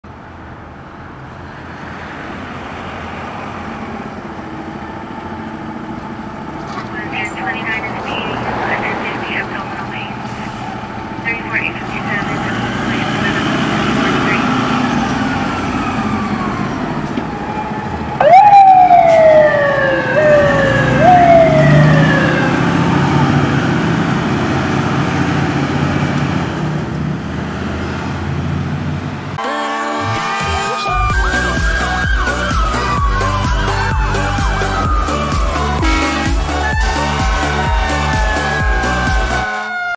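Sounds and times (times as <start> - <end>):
diesel engine running: 3.6 - 39.7.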